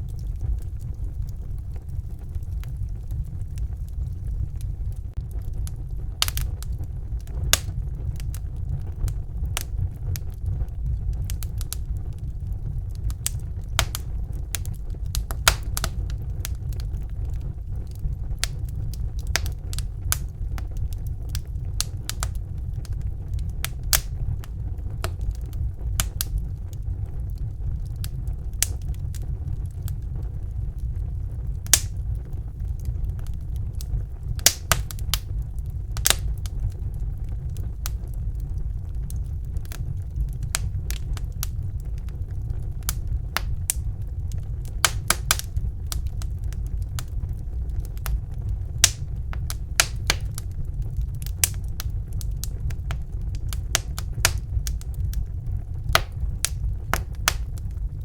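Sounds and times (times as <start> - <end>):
steady low rumble: 0.0 - 58.0
wood fire crackling and popping: 0.0 - 58.0.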